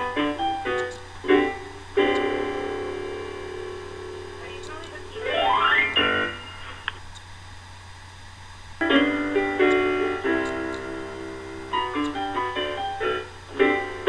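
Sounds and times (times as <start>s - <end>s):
solo piano chords: 0.0s - 6.7s, 8.8s - 14.0s
low hum: 1.0s - 12.6s.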